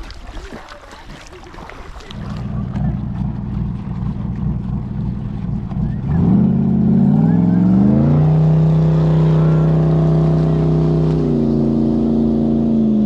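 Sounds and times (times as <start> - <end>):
boat engine revving: 1.7 - 13.0.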